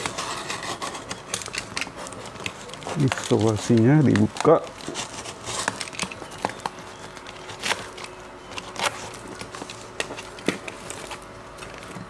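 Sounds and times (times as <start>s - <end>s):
tape and cardboard crinkling: 0.0s - 12.0s.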